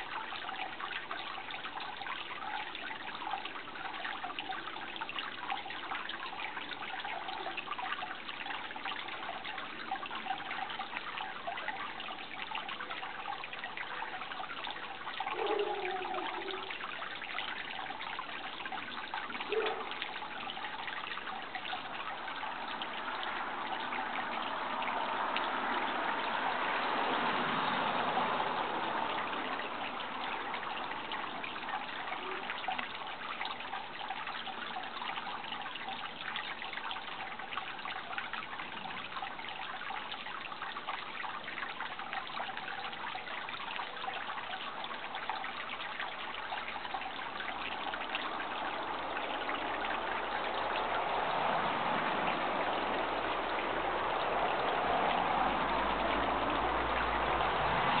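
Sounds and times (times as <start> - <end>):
water rushing: 0.0 - 58.0
water trickling: 0.0 - 58.0.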